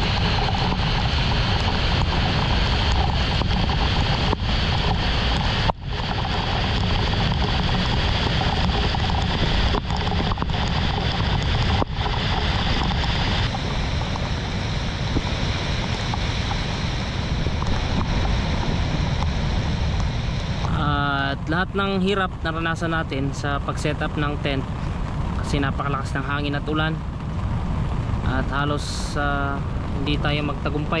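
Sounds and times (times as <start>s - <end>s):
heavy rain: 0.0s - 31.0s
wind buffeting microphone: 0.0s - 31.0s.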